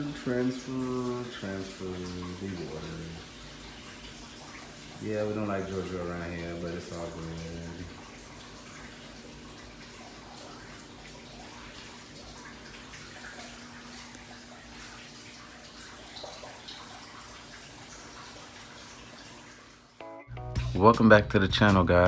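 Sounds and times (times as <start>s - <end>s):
water splashing into aquarium: 0.0s - 20.0s.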